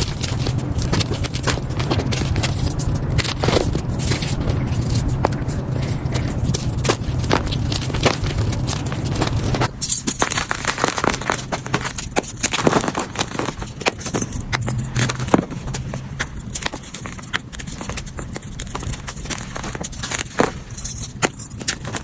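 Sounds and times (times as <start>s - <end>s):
chalk crunching and crackling: 0.0s - 22.0s.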